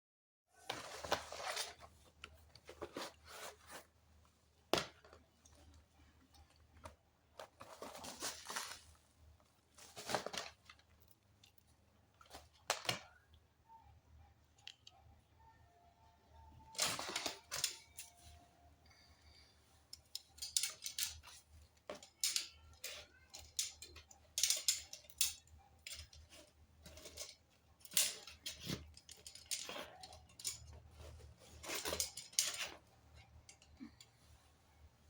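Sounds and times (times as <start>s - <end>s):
handling clicks and rustles: 0.6s - 13.4s, 16.1s - 35.0s.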